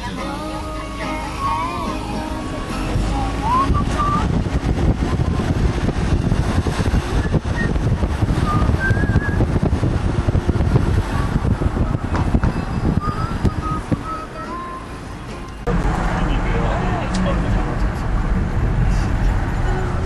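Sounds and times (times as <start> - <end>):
wind and road rumble in car: 0.0 - 20.0.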